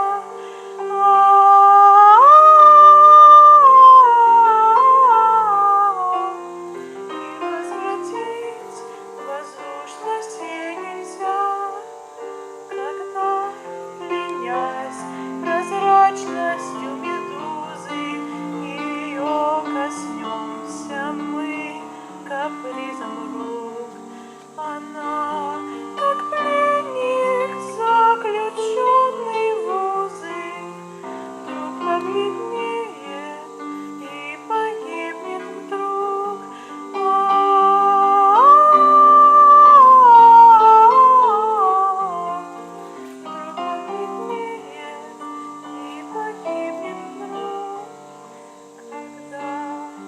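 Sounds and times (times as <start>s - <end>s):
person humming: 0.0s - 50.0s.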